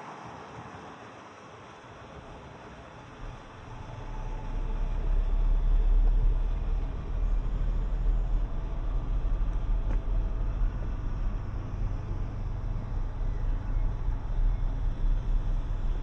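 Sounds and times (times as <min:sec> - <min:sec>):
motor vehicle rumble: 0:03.1 - 0:16.0.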